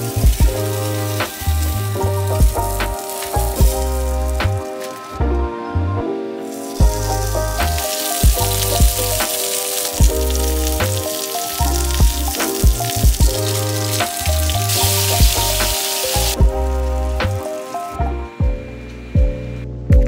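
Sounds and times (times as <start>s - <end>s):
sauce glaze bubbling: 0.0s - 5.1s, 6.5s - 17.8s
skewers sizzling in a pan: 0.0s - 5.2s, 6.5s - 18.0s
background music with bass: 0.0s - 20.0s.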